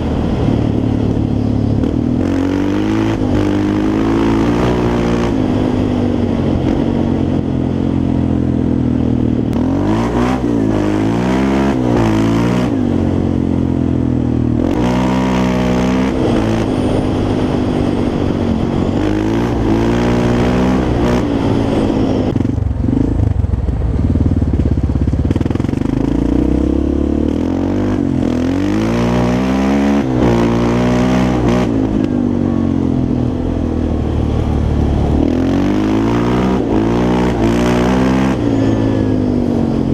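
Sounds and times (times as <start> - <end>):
quad bike engine revving: 0.0 - 7.9, 9.4 - 39.9.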